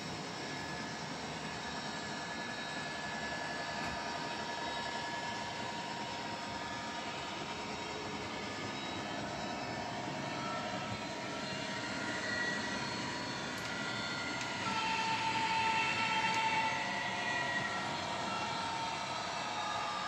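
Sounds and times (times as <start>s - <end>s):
model train engine drone: 0.0s - 20.0s.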